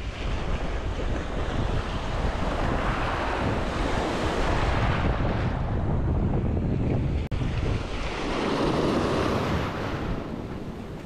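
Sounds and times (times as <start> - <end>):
ocean surf breaking: 0.0 - 6.0, 7.1 - 11.0
wind rumbling on microphone: 0.0 - 11.0.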